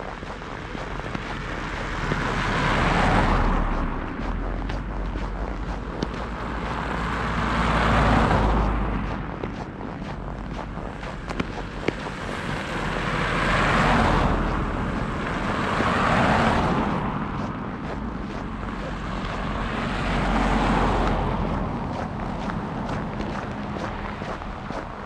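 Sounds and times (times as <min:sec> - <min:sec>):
cars passing on snowy road: 0:00.0 - 0:25.0.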